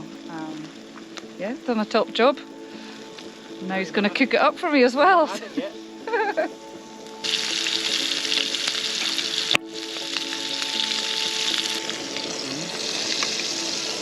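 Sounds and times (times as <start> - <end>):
steak sizzling in a hot pan: 0.0 - 14.0.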